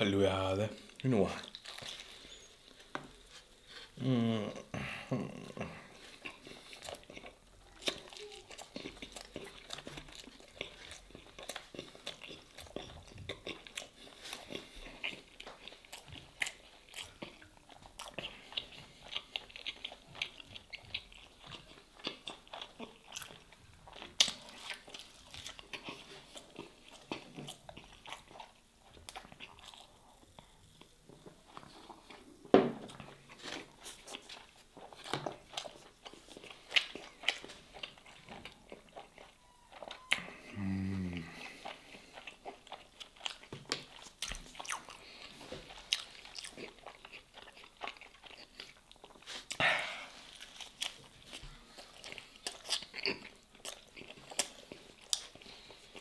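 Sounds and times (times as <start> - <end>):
chewing and crunching pastry: 0.0 - 56.0.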